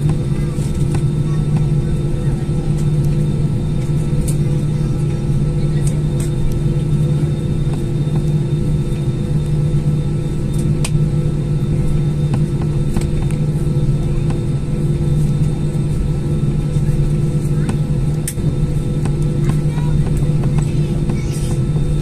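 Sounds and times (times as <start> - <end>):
jet engines humming: 0.0 - 22.0.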